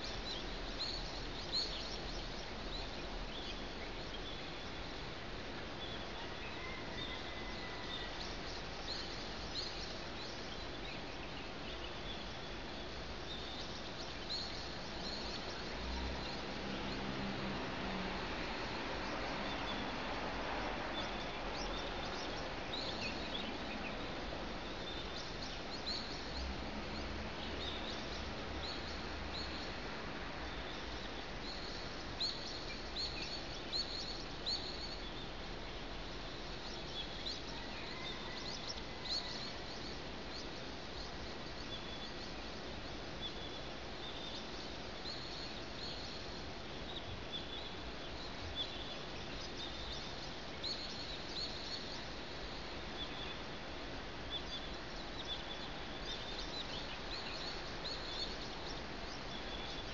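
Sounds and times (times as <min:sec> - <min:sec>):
small birds chirping: 0:00.0 - 0:20.1, 0:20.9 - 0:59.9
city ambience hum: 0:00.0 - 0:59.9.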